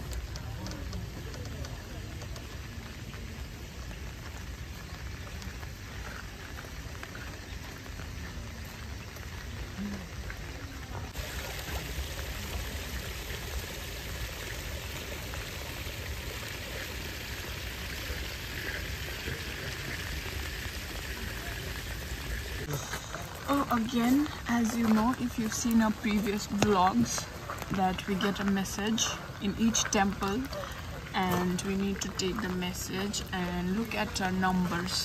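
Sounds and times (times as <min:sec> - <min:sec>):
steady rain: 0:00.0 - 0:35.0
water trickling into pond: 0:00.0 - 0:35.0.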